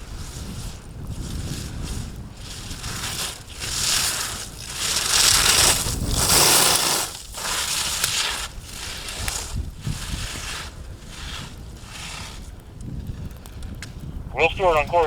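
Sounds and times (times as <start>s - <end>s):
ski edges scraping snow: 0.0s - 13.5s.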